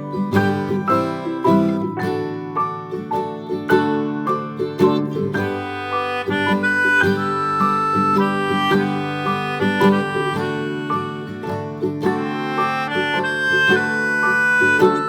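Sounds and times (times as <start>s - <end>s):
banjo-like plucked string music: 0.0s - 15.0s.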